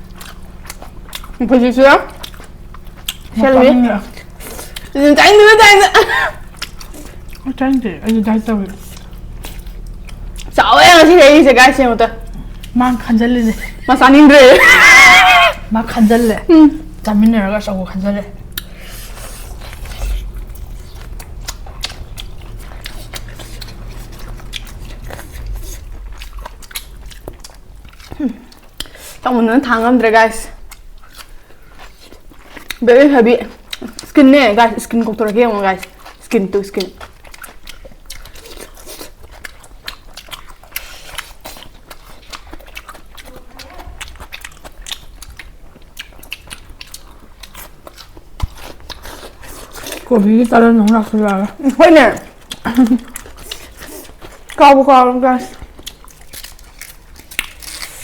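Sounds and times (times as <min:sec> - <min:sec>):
person chewing crunchy food: 0:00.0 - 0:05.0, 0:06.0 - 0:10.7, 0:11.7 - 0:29.9, 0:30.6 - 0:34.2, 0:34.9 - 0:58.0
steady low hum: 0:00.0 - 0:58.0.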